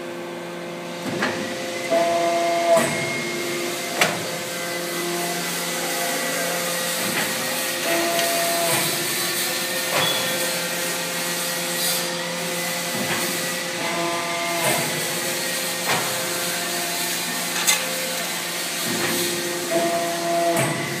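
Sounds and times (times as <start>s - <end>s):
hydraulic power unit humming: 0.0s - 21.0s.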